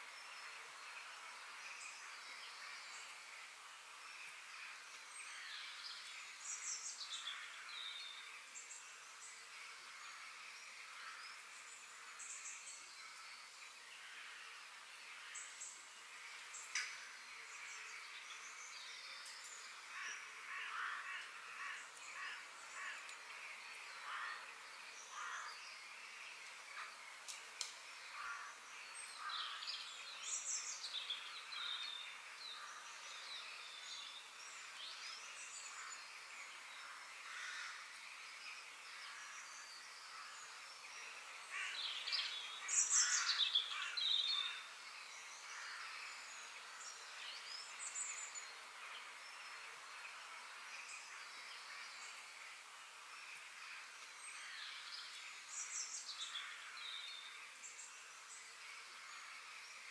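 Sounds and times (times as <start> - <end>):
faint background hiss: 0.0 - 59.9.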